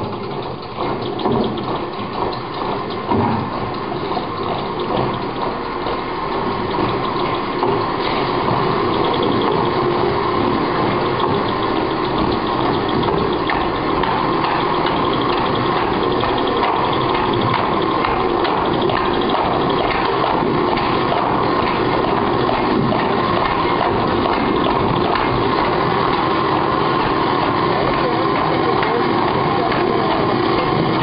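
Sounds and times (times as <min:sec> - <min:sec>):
fast ticking of needles: 0:00.0 - 0:31.0
sewing machines running: 0:00.0 - 0:31.0.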